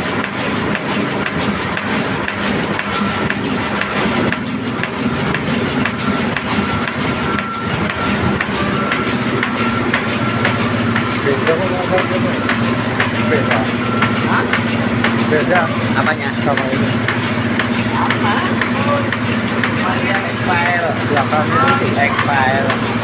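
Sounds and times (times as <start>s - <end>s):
faint regular ticking: 0.0s - 23.0s
heavy engine running: 0.0s - 23.0s.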